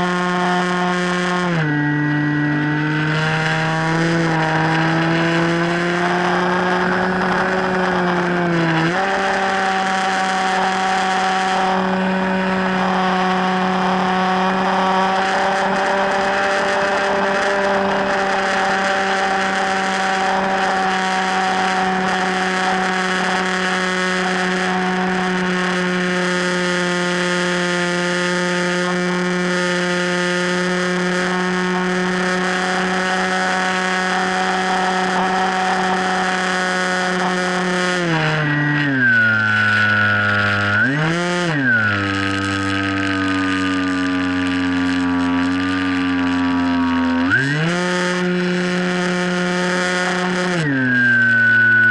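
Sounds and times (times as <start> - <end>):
model plane motor whine: 0.0 - 51.9.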